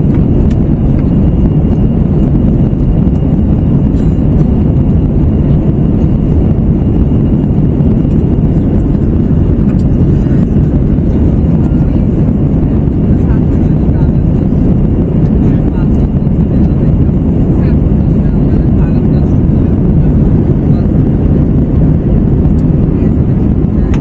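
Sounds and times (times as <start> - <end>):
aircraft cabin engine roar: 0.0 - 24.0.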